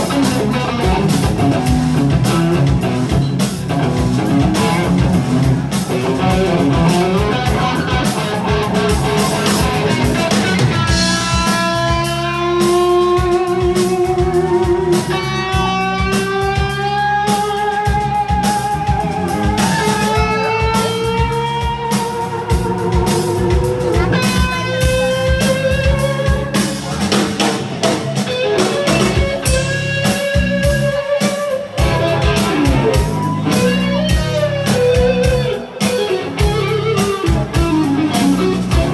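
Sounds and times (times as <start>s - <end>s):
electric guitar solo: 0.0s - 3.0s, 3.7s - 26.8s, 28.0s - 38.9s
steady drum beat: 0.0s - 38.9s.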